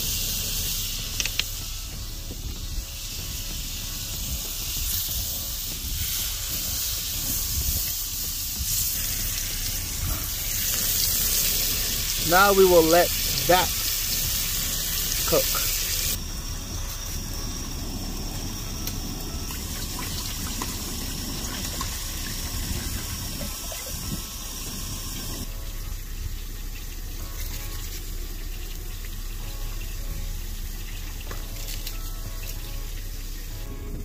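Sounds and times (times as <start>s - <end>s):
water pouring into metal pot: 3.3s - 16.2s, 18.4s - 33.6s.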